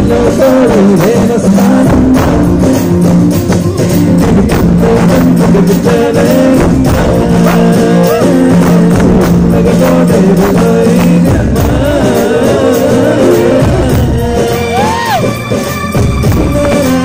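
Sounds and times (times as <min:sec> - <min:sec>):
person singing: 0:00.0 - 0:17.0
sustained musical accompaniment: 0:00.0 - 0:17.0.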